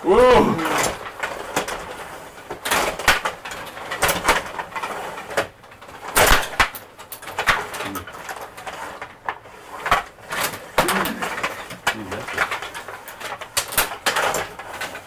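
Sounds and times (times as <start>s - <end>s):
plastic clacks of rod hockey game: 0.7s - 15.0s.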